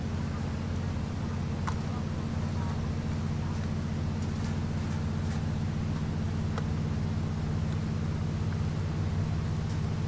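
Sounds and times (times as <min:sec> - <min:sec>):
train rumble from inside carriage: 0:00.0 - 0:10.0.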